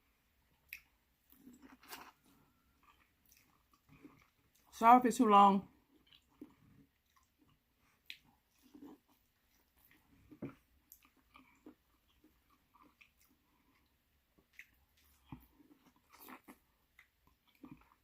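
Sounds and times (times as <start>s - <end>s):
person chewing food: 0.0s - 4.7s, 5.7s - 18.0s.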